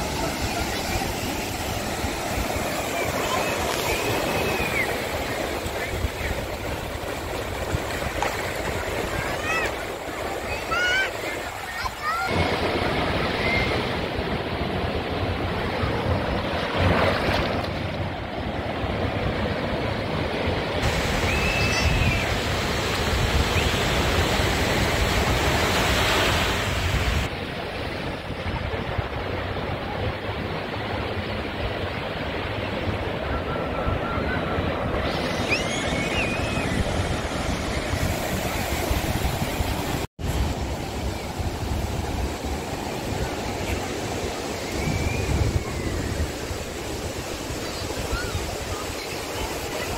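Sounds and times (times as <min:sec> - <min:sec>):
ocean surf breaking on sand: 0:00.0 - 0:49.9.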